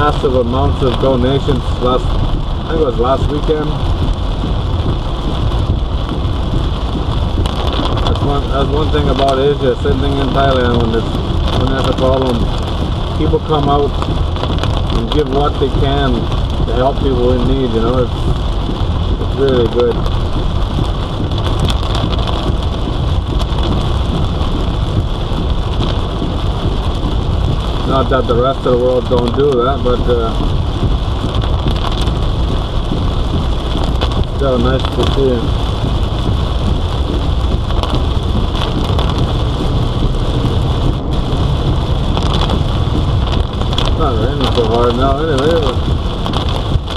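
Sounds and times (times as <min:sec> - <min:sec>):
rain on a car: 0:00.0 - 0:46.9
road and engine rumble: 0:00.0 - 0:46.9.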